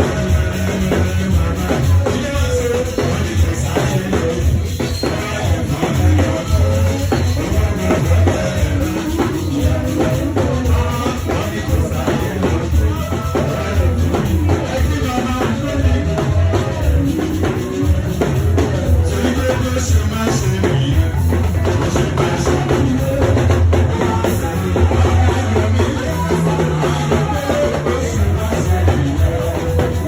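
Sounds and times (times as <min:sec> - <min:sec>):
choir singing: 0:00.0 - 0:30.0
drum kit with bass beat: 0:00.0 - 0:30.0.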